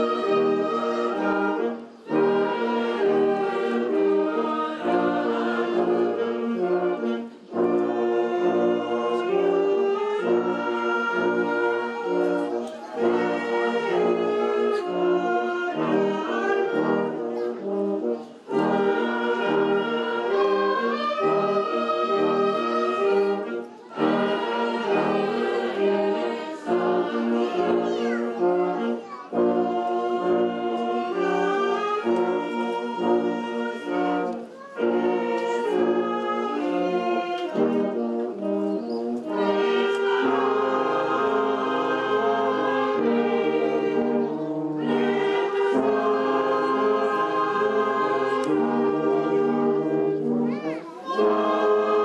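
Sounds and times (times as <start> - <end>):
brass band playing held chords: 0.0 - 52.0.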